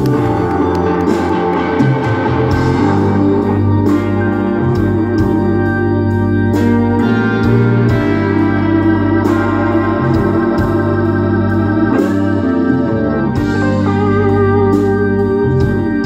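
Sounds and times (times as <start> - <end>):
electric guitar: 0.0 - 16.0
organ-like keyboard chords: 0.0 - 16.0.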